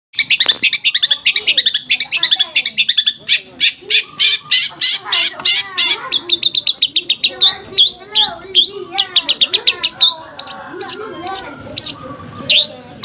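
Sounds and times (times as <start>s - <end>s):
lovebird chirping song: 0.2s - 13.0s.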